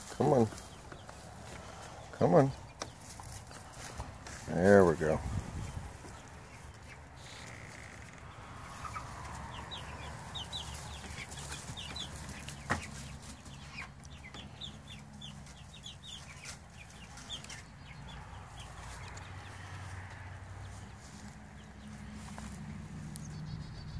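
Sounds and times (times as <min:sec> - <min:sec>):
chicks peeping: 0:00.0 - 0:23.9.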